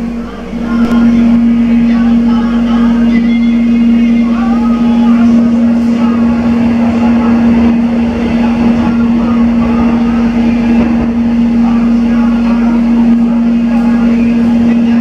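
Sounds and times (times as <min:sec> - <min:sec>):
rumble of wheels and air: 0:00.0 - 0:15.0
train interior hum: 0:00.0 - 0:15.0.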